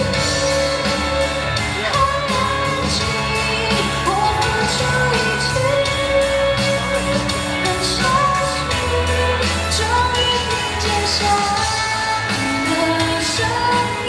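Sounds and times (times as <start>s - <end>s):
full band playing: 0.0s - 14.0s
steady drum beats: 0.0s - 14.0s
woman singing a pop ballad: 0.0s - 14.0s.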